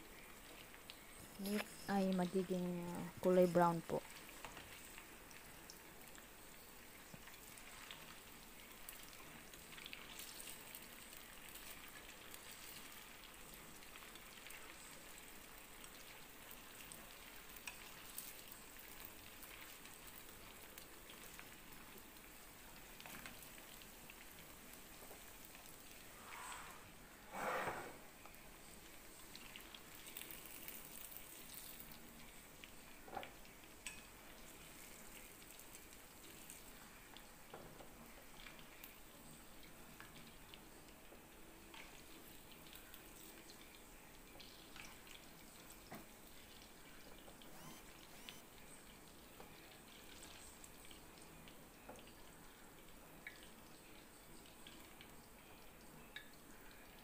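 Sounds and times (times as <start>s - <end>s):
meatballs sizzling in oil: 0.0s - 27.0s, 28.1s - 47.6s, 48.4s - 57.0s.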